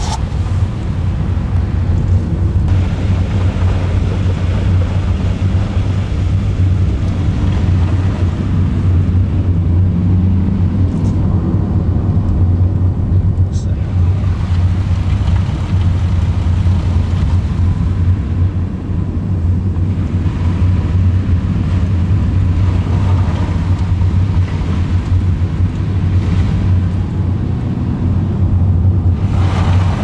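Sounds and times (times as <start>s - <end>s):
car driving on wet road: 0.0s - 30.0s.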